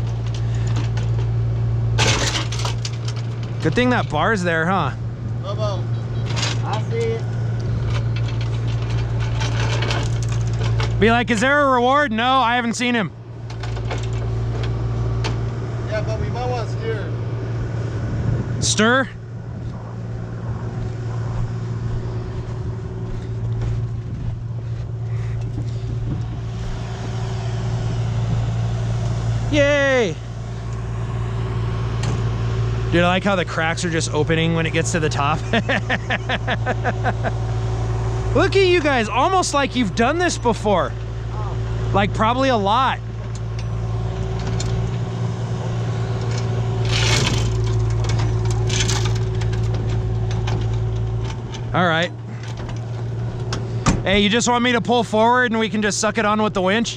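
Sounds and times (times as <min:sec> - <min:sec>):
engine humming: 0:00.0 - 0:56.9.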